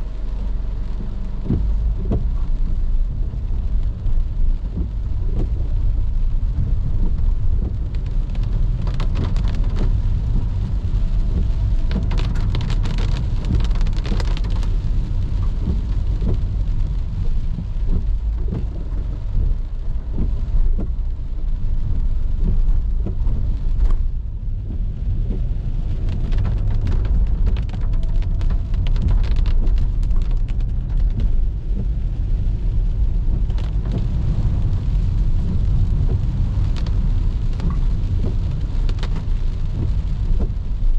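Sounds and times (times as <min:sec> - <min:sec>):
car driving on a wet road: 0:00.0 - 0:40.9
rain pattering on a car: 0:00.0 - 0:40.9.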